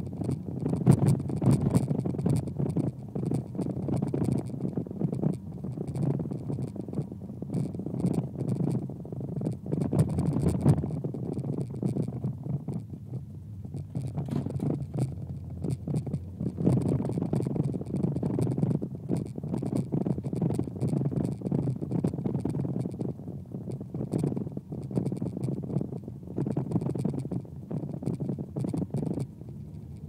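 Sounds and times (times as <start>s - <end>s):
car engine and tyre rumble: 0.0s - 30.0s
scratchy rattles and scrapes: 0.0s - 30.0s.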